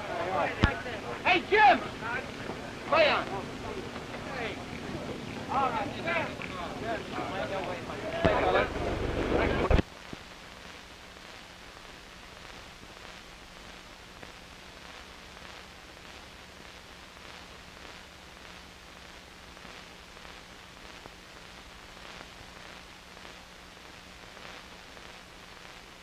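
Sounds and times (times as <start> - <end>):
faint crackles: 0.0 - 26.0
low steady hum: 0.0 - 26.0
soundtrack hiss: 0.0 - 26.0.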